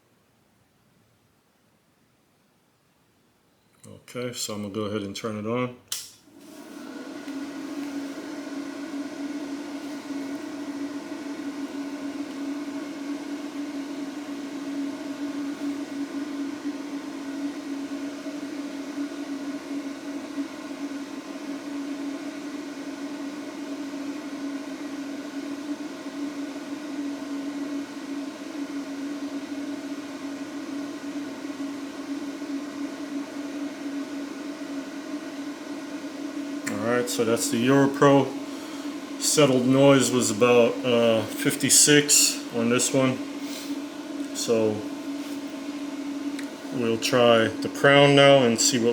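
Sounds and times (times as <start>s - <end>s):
amplifier cooling fan whirring: 3.8s - 48.9s.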